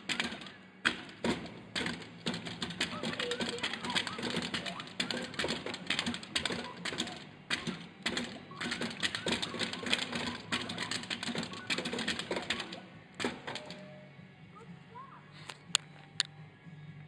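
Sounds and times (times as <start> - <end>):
padded mallet knocking on targets: 0.1 - 13.8.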